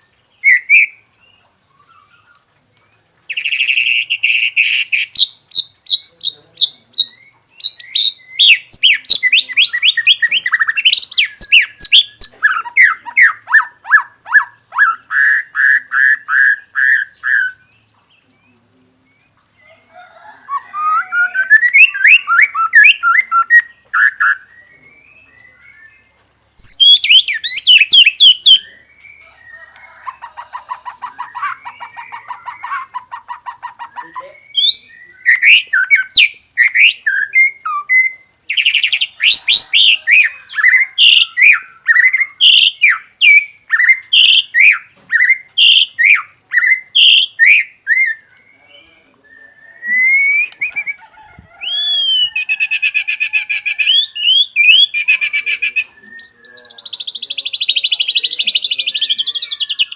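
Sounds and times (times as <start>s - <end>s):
bird singing whistled song: 0.0s - 19.4s, 20.5s - 30.0s, 33.7s - 51.0s, 51.6s - 59.9s.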